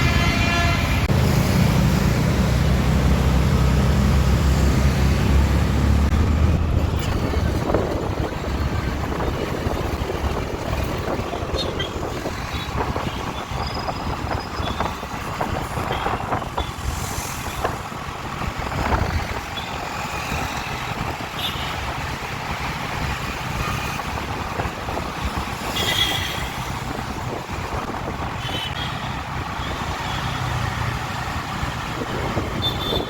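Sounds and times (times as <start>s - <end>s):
street noise: 0.0s - 33.0s
vehicle engines running: 1.0s - 33.0s.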